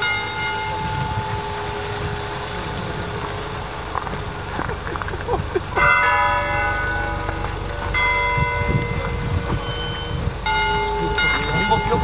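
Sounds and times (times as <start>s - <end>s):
church bell tolling: 0.0s - 12.0s.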